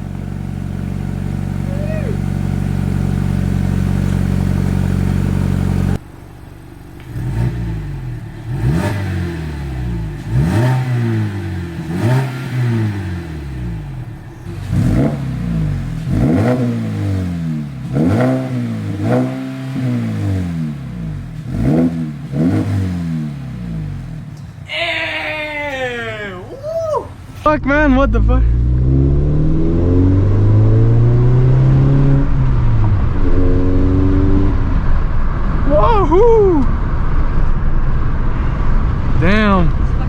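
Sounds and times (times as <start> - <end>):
car engine revving: 0.0 - 24.6, 27.1 - 40.0.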